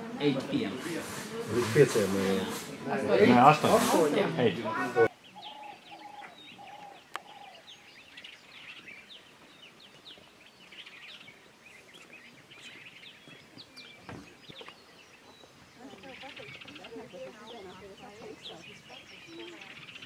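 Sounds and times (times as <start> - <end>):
birds chirping and trilling: 0.1 - 20.0.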